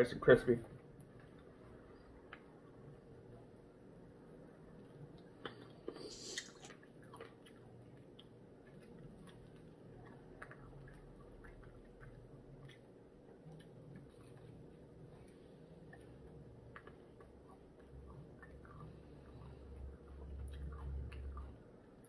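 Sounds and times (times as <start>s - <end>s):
quiet chewing with clicks: 0.4s - 22.0s.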